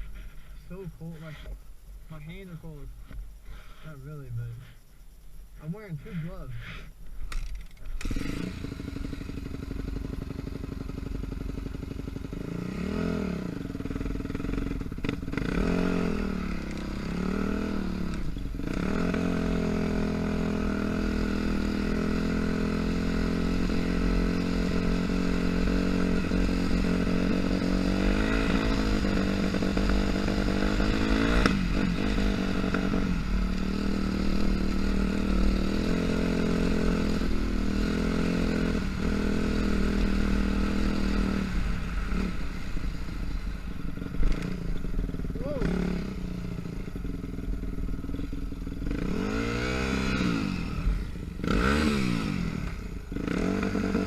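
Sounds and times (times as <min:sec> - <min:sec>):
dirt bike engine revving: 0:07.9 - 0:54.0.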